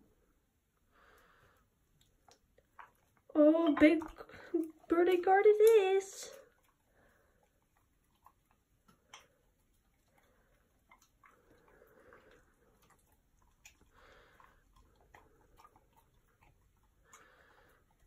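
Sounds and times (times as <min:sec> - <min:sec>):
dog chewing and licking: 0:01.8 - 0:18.0.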